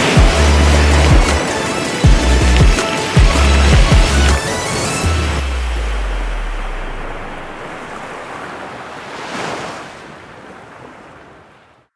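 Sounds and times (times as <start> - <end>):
sea waves breaking on shore: 0.0 - 11.9.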